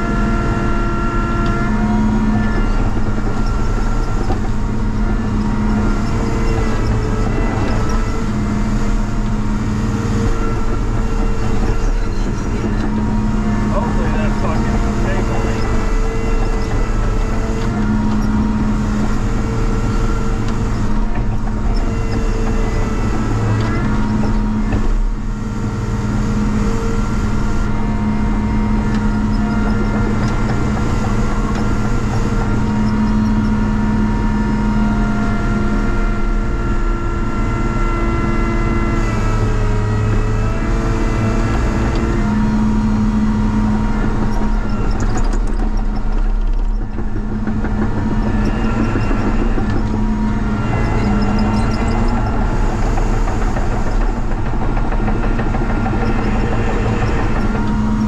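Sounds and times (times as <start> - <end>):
loader diesel engine running: 0.0 - 58.0.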